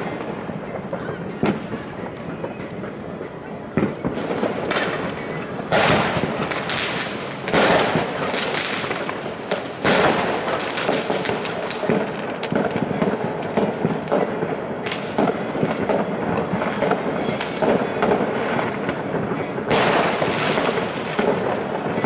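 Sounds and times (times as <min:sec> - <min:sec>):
fireworks cracking and popping: 0:00.0 - 0:22.0
loud firework bangs: 0:00.0 - 0:22.0.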